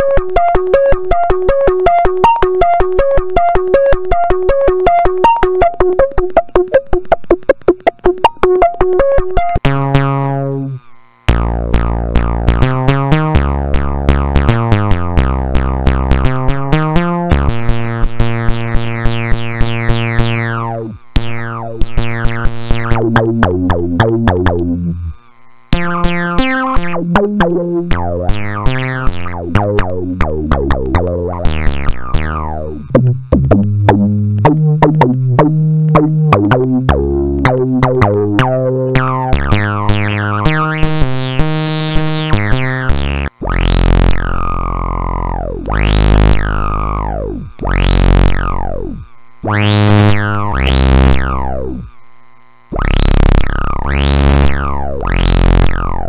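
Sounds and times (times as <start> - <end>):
plucky synth bass notes: 0.0 - 51.9, 52.7 - 56.0.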